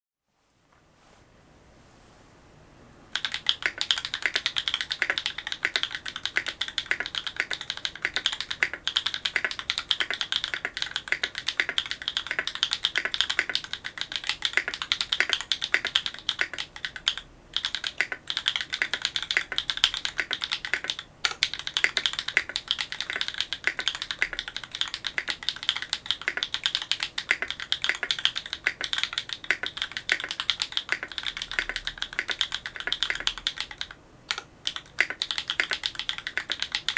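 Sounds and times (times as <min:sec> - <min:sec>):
fast mechanical keyboard typing: 0:03.1 - 0:36.9.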